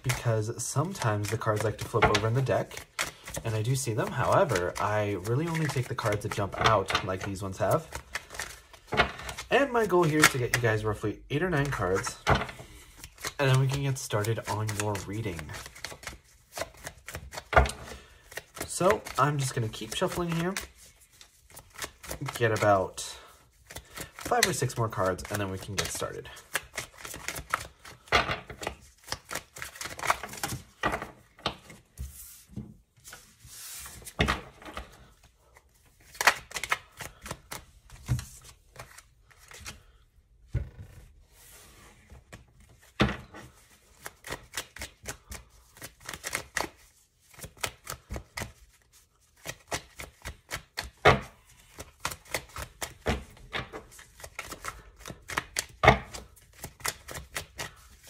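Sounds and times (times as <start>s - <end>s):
cards shuffling: 0.0s - 40.0s, 40.8s - 58.0s.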